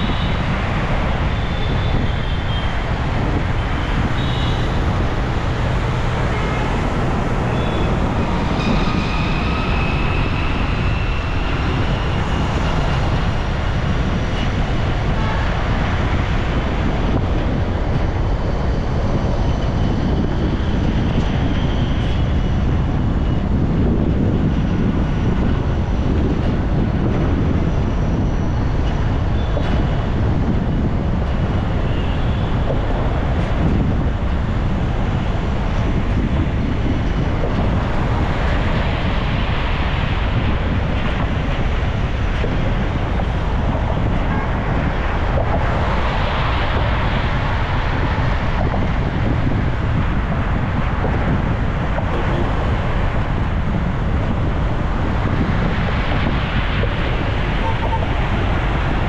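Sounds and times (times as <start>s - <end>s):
rumble of tyres and engines: 0.0s - 59.0s.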